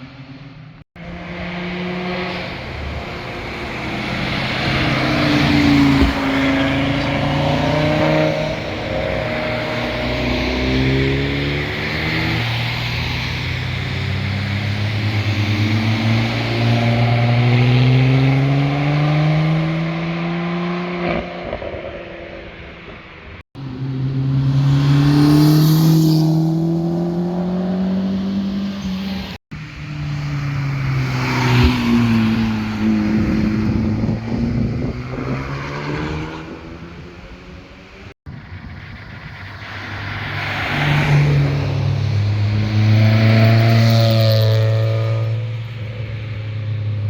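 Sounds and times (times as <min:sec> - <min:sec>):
car engines revving past: 0:00.0 - 0:47.0.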